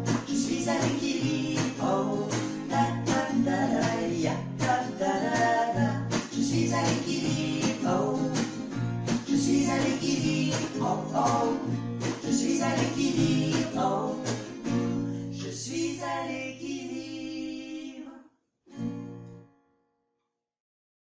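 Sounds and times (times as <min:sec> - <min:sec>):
strummed acoustic guitars: 0:00.0 - 0:17.8, 0:18.7 - 0:19.7
women singing: 0:00.0 - 0:18.2.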